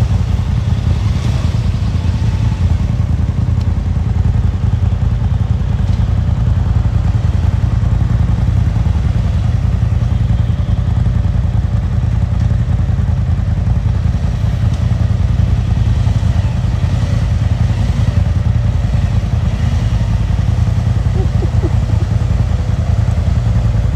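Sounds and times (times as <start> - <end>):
utility vehicle engine running: 0.0 - 23.9.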